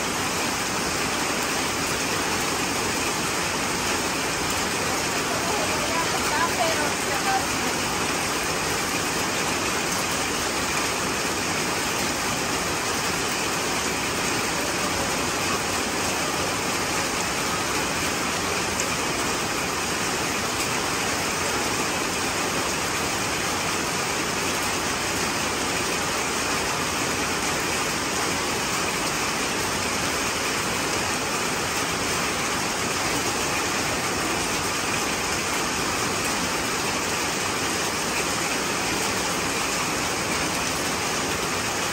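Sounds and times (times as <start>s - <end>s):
rain falling on wet ground: 0.0s - 41.9s.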